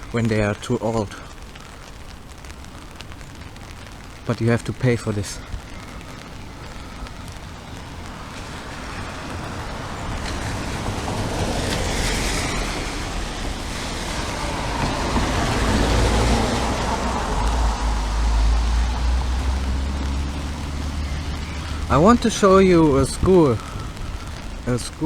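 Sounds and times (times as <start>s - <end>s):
low engine rumble: 0.0s - 25.0s
tyre hiss on wet road: 0.0s - 25.0s.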